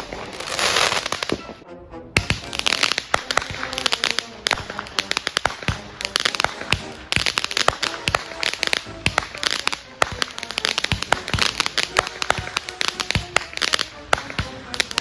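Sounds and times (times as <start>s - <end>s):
fireworks crackles and pops: 0.0s - 1.6s, 2.2s - 15.0s.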